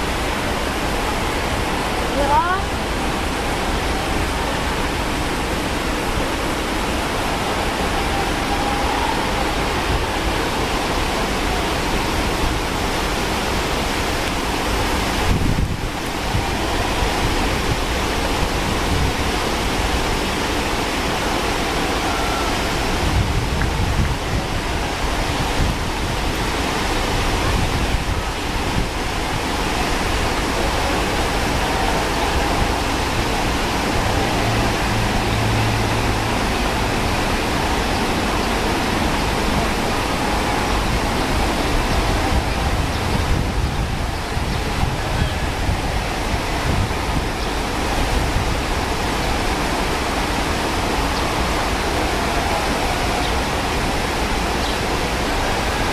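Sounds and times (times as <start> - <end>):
river rushing over rapids: 0.0 - 55.9.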